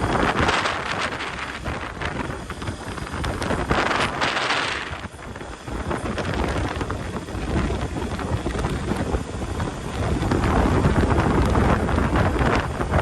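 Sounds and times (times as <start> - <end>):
motorcycle engine: 0.0 - 13.0
road noise: 0.0 - 13.0
wind buffeting microphone: 0.0 - 13.0.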